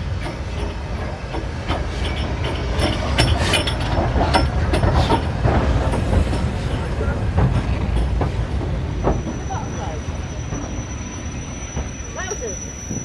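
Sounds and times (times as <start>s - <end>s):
wheels clattering over rails: 0.0s - 10.8s
train rumbling: 0.0s - 13.0s.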